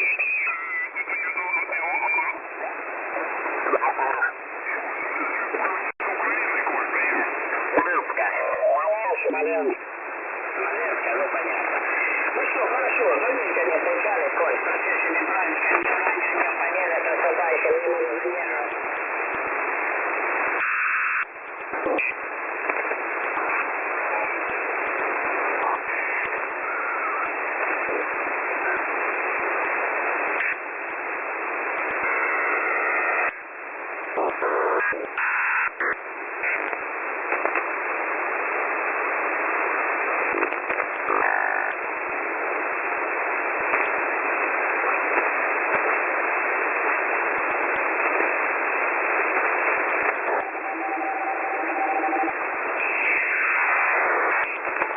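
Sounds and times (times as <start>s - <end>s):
radio static hiss: 0.0s - 54.9s
static crackles: 0.0s - 54.9s.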